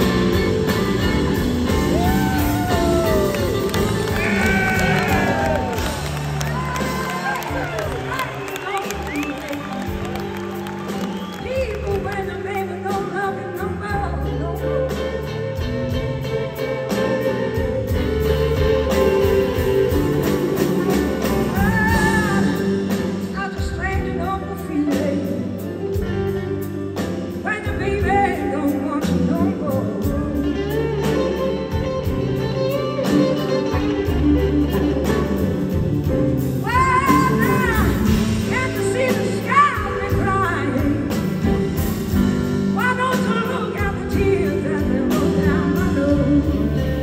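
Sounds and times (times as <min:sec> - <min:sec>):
live blues band playing: 0:00.0 - 0:47.0.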